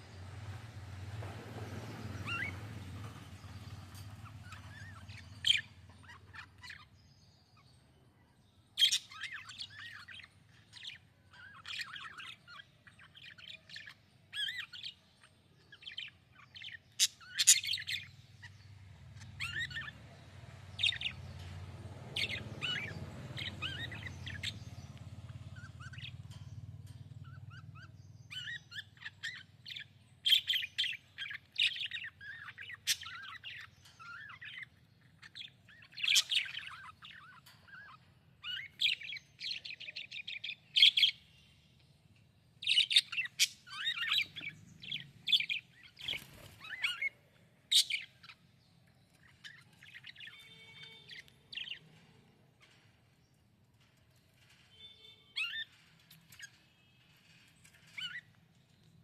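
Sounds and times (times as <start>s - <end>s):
budgerigars chirping: 2.2s - 6.9s, 8.8s - 15.0s, 15.6s - 20.0s, 20.7s - 41.3s, 42.6s - 52.0s, 54.4s - 58.4s.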